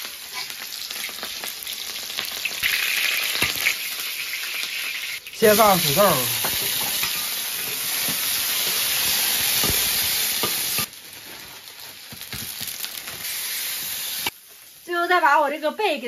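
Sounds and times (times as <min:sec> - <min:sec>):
potatoes sizzling in hot oil: 0:00.0 - 0:16.0.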